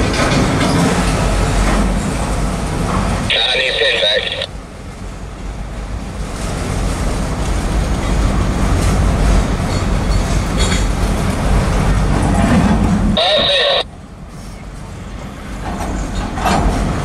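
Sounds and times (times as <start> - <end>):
freight train rolling past: 0.0 - 3.4, 4.2 - 17.0.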